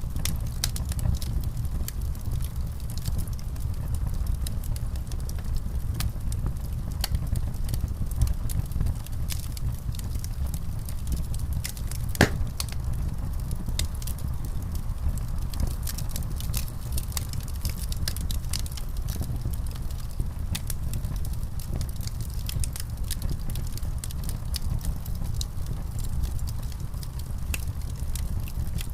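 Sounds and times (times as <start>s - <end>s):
low fire roar: 0.0s - 28.9s
wood fire crackling: 0.0s - 28.9s.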